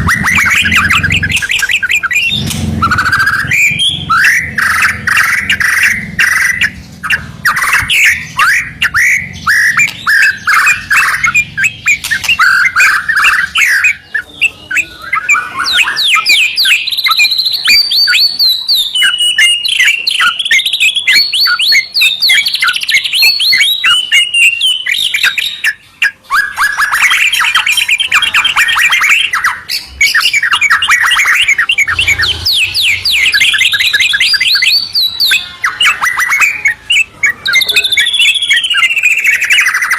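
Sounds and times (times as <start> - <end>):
bird chattering trills: 0.0 - 39.9
songbird whistled phrases: 0.0 - 39.9.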